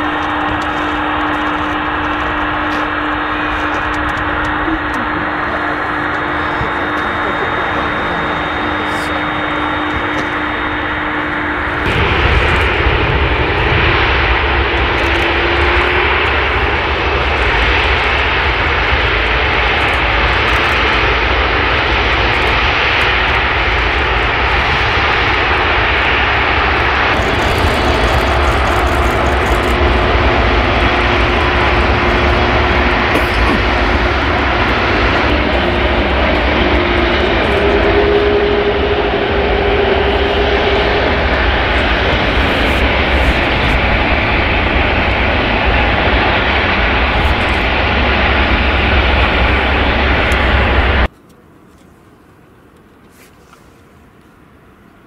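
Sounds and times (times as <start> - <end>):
faint jet whine: 0.0 - 55.0
jet engines roaring: 0.0 - 55.0.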